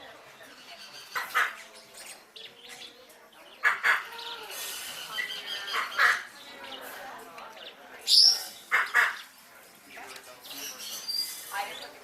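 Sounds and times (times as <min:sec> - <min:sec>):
parrots chattering and whistling: 0:00.3 - 0:09.4, 0:10.4 - 0:12.0.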